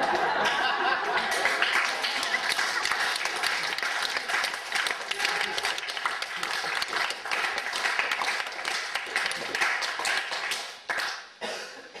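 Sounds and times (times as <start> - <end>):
audience applause: 0.0 - 11.2.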